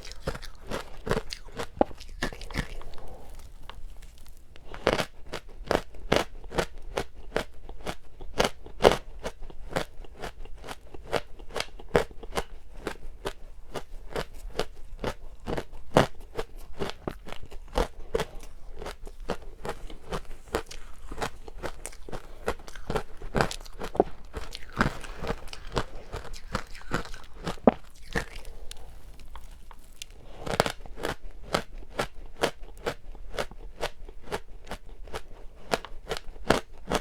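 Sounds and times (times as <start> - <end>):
chewing ice crunches: 0.0 - 37.0.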